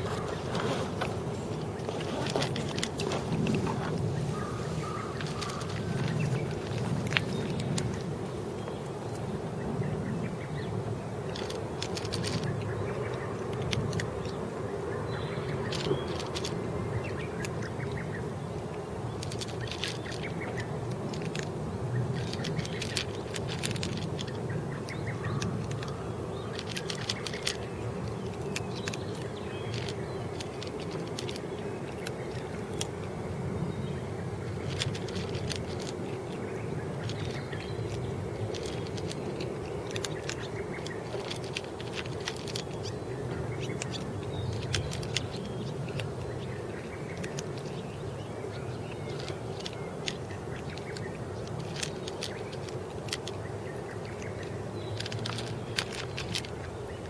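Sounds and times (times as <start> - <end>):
kittens chewing clicks: 0.0 - 4.1, 5.1 - 14.3, 15.6 - 18.0, 19.2 - 46.3, 49.0 - 54.2, 54.8 - 57.0.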